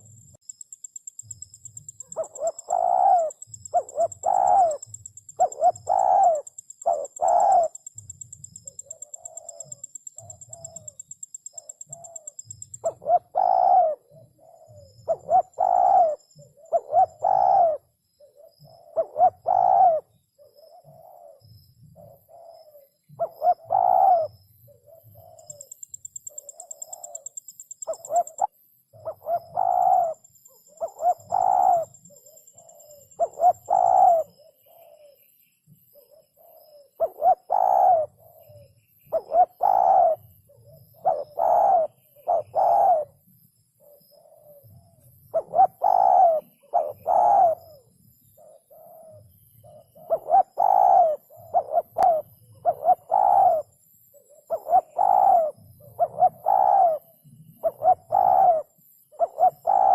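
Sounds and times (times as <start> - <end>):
dove cooing: 1.3 - 43.2, 43.8 - 59.9.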